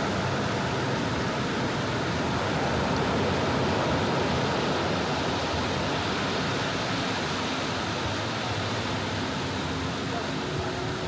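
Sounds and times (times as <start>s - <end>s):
sea waves washing on beach: 0.0s - 11.0s.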